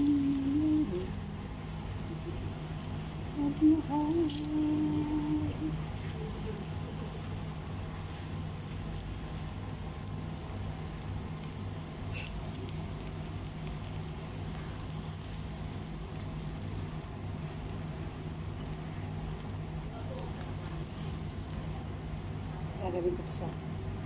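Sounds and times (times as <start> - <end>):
food sizzling in hot oil: 0.0 - 24.0
low steady hum: 0.0 - 24.0.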